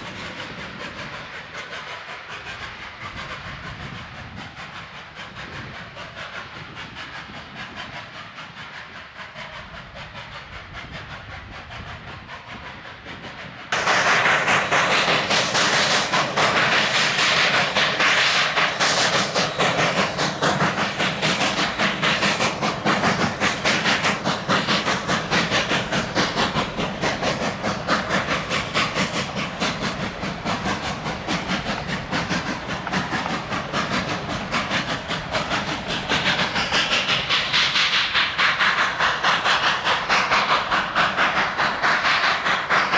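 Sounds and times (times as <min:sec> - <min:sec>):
steam hiss: 0:00.0 - 0:42.9
steam train chugging: 0:00.0 - 0:42.9.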